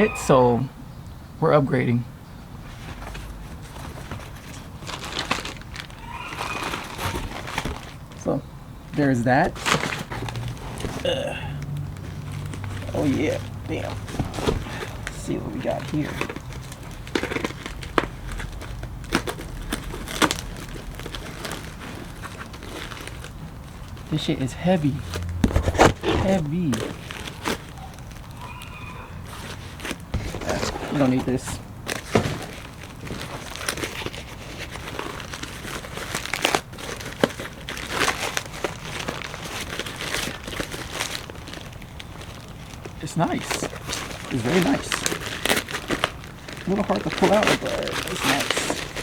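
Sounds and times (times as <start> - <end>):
box packaging rustling: 2.7 - 49.0.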